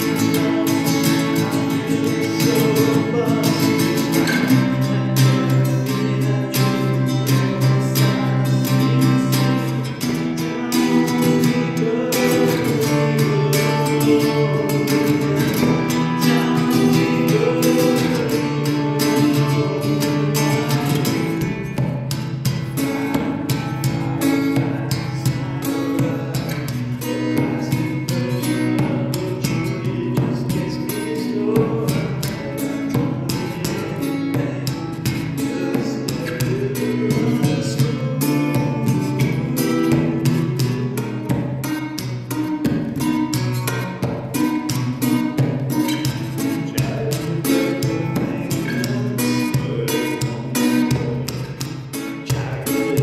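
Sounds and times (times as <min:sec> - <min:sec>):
strummed acoustic guitar: 0:00.0 - 0:53.0.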